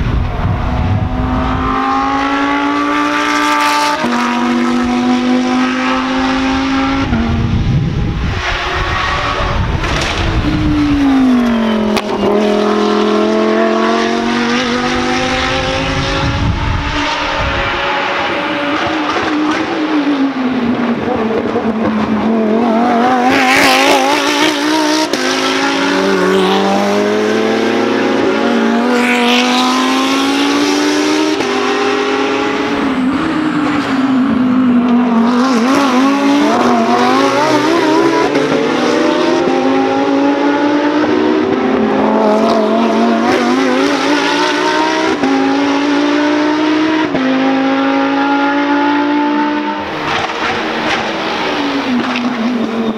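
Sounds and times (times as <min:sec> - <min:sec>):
race car engines passing: 0:00.0 - 0:52.9.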